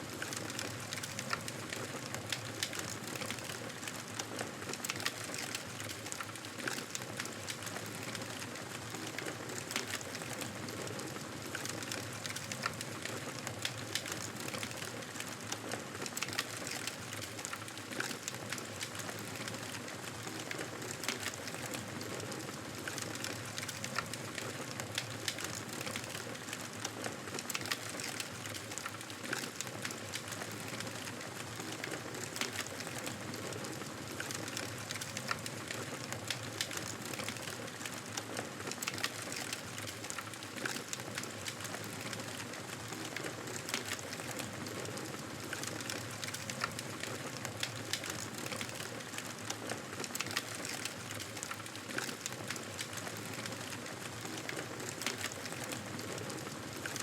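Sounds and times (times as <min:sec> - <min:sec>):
wood fire popping and snapping: 0:00.1 - 0:57.0.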